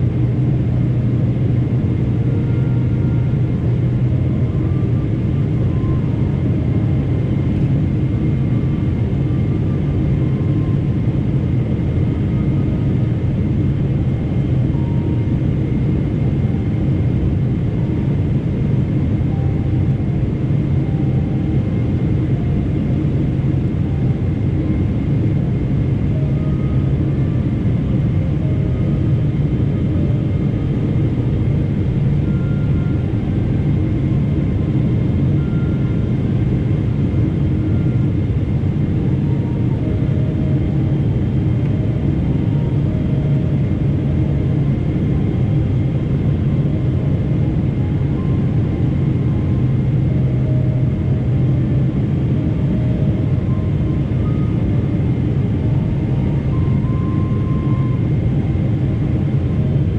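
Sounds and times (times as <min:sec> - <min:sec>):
airliner cabin rumble: 0:00.0 - 0:59.9
faint high whine: 0:00.0 - 0:59.9.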